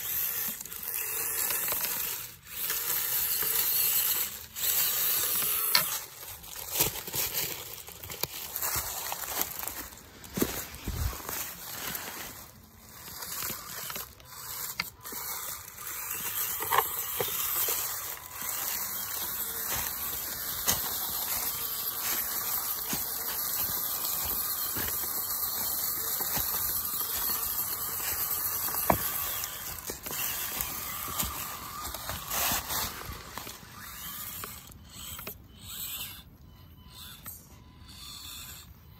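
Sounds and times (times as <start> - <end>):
dry leaves rustling and crunching: 0.0 - 35.2.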